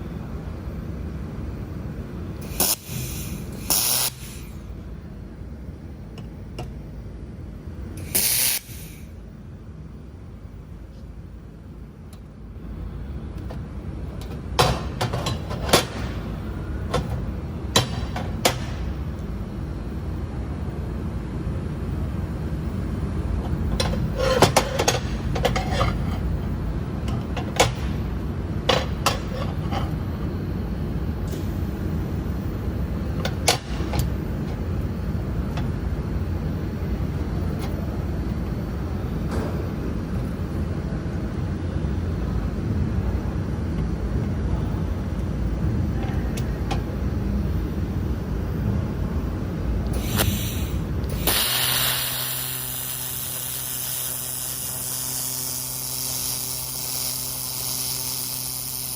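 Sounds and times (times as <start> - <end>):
low machine hum: 0.0 - 58.9.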